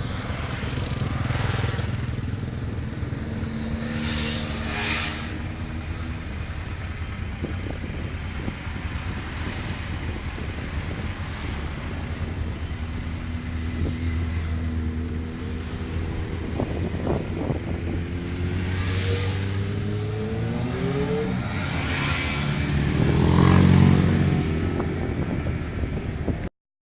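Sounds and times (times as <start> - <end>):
motorcycle passing: 0.0 - 26.0
motorcycle revving: 0.0 - 26.4
motorcycle engines running: 0.0 - 26.5.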